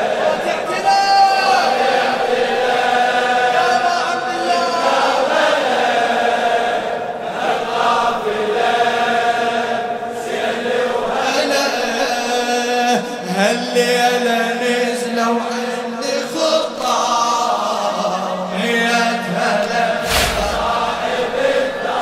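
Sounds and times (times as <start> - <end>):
crowd of men chanting in unison: 0.0 - 22.0.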